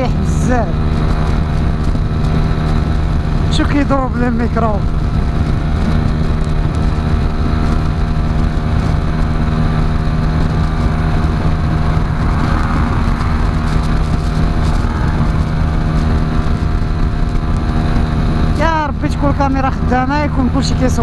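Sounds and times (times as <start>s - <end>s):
motorcycle engine cruising: 0.0s - 21.0s
wind buffeting microphone: 0.0s - 21.0s.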